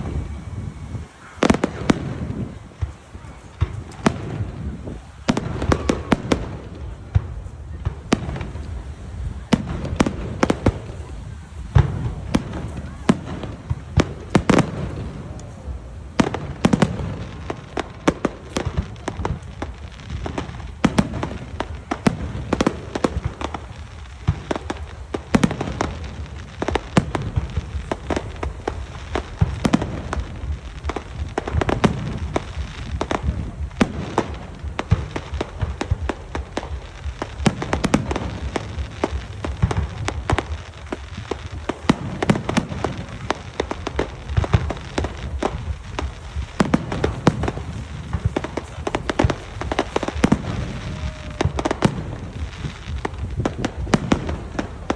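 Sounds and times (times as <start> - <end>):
deep booms of bursting shells: 0.0 - 54.9
fireworks bangs and crackling: 0.0 - 54.9.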